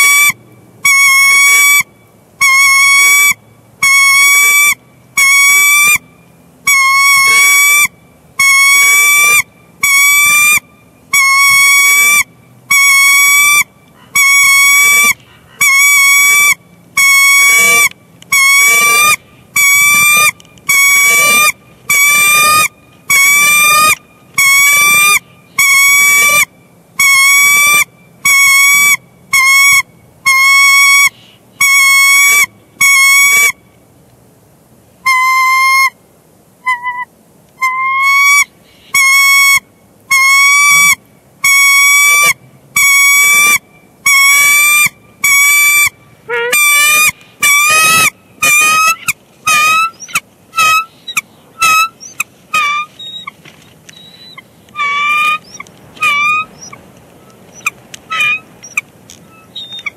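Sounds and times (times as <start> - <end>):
eagles calling: 0.0 - 33.6, 35.0 - 36.0, 36.6 - 59.9.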